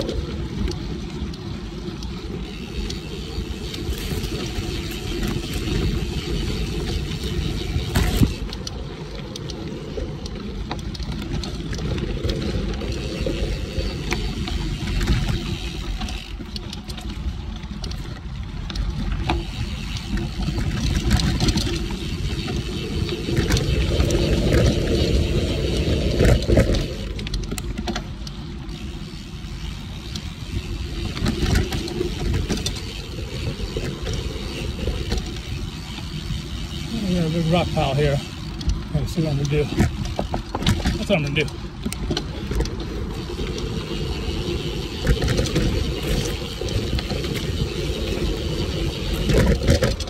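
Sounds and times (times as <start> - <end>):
bike clicking and rattling: 0.0 - 50.0
tyres rolling on dirt: 0.0 - 50.0
wind rumble on microphone: 0.0 - 50.0.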